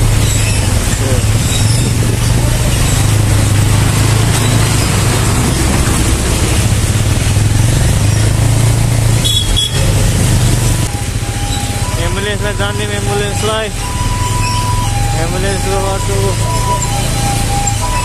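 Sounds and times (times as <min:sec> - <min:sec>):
road and wind noise: 0:00.0 - 0:18.0
vehicle engine hum: 0:00.0 - 0:18.0.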